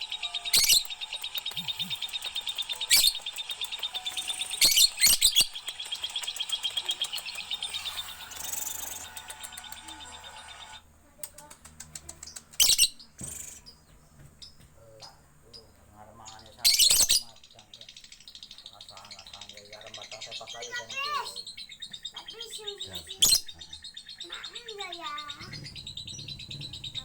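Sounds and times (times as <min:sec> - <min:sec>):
lovebird chirping: 0:00.0 - 0:10.9, 0:11.6 - 0:27.0.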